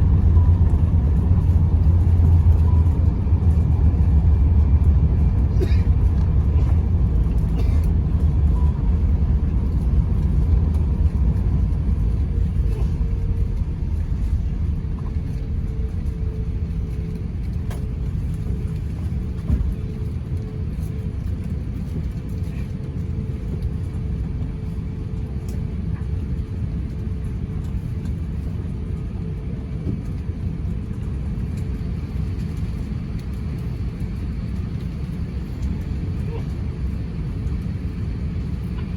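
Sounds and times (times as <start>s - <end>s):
low rumble inside aircraft cabin: 0.0s - 38.9s.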